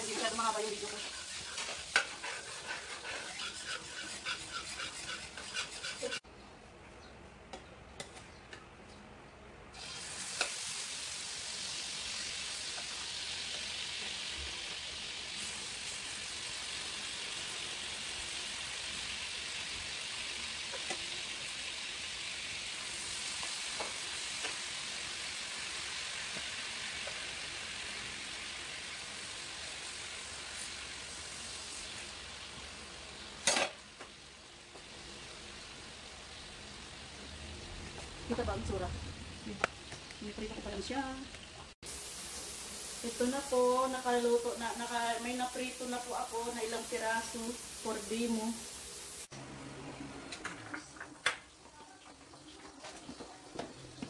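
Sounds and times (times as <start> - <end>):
fish sizzling in a frying pan: 0.0 - 6.2, 9.8 - 37.3, 39.4 - 49.3.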